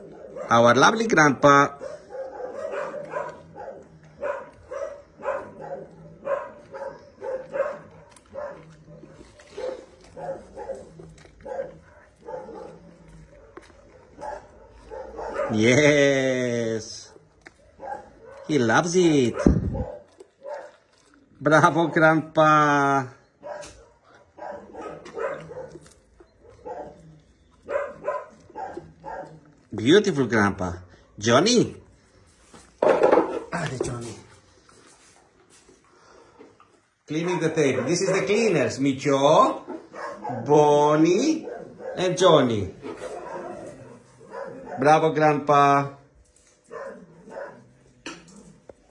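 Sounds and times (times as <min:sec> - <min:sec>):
dogs barking: 0:00.0 - 0:16.0, 0:16.7 - 0:31.2, 0:37.0 - 0:48.9.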